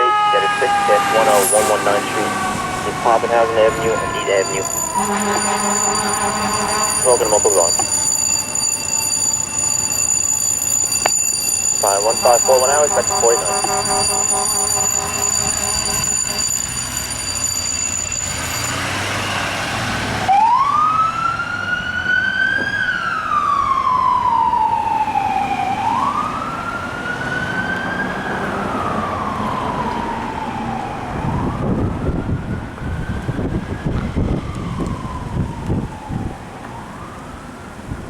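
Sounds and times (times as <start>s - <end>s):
fire engine siren wailing: 0.0s - 38.0s
low rumble of fire engine: 0.0s - 38.0s.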